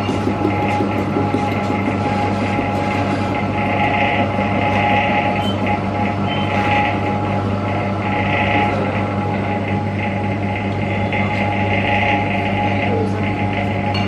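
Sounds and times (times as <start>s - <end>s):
vending machine pump humming: 0.0s - 14.0s.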